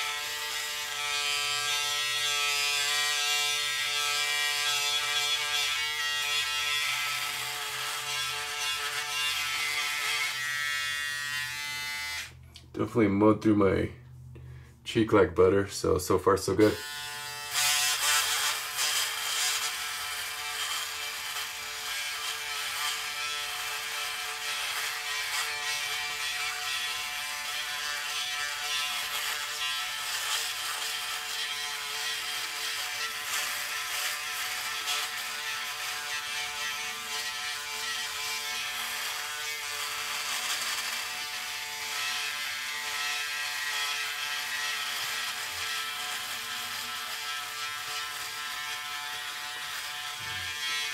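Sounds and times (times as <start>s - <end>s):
electric shaver motor buzz: 0.0s - 12.4s, 16.6s - 50.9s.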